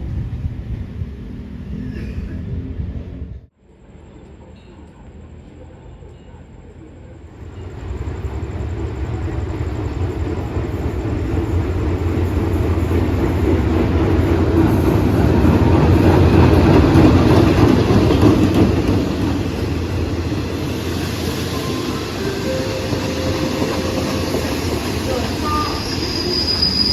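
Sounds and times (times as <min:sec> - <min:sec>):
train passing on rails: 0:00.0 - 0:26.9.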